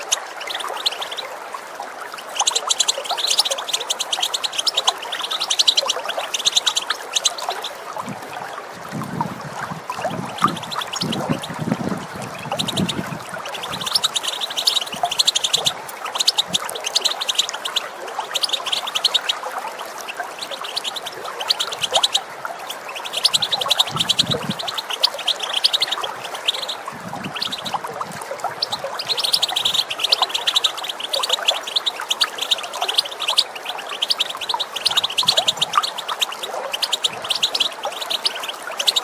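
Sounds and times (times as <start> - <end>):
goldfinches twittering: 0.0 - 1.4, 2.0 - 8.2, 9.7 - 39.0
running water: 0.0 - 39.0.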